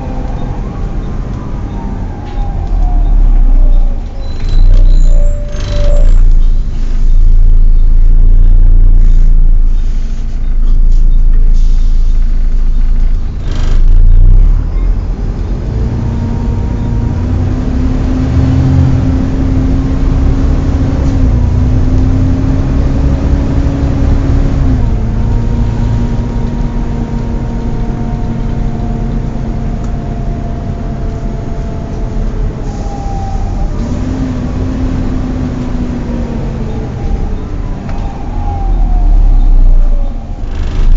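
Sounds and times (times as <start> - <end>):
diesel engine rumble: 0.0 - 40.9.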